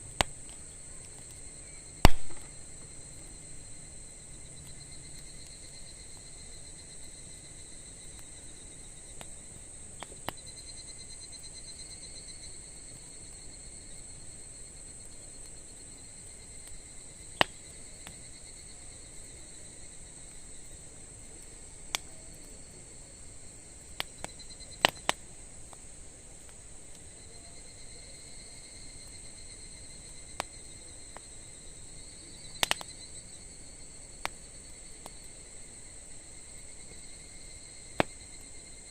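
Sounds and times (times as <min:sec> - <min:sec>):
campfire wood popping: 0:00.0 - 0:38.9
crickets trilling: 0:00.0 - 0:38.9.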